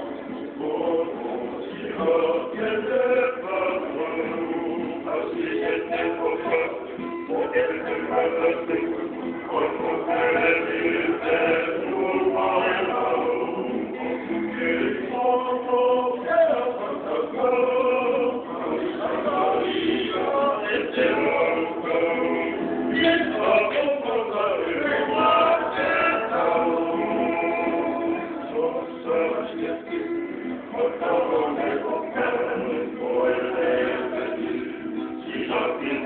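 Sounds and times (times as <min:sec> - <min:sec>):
acoustic guitars strumming: 0:00.0 - 0:36.0
men singing in harmony: 0:00.5 - 0:36.0.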